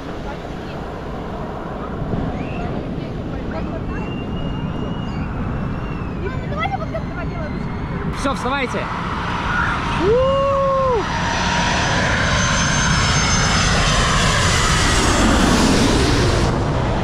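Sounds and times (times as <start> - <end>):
jet airliner flying overhead: 0.0 - 17.0.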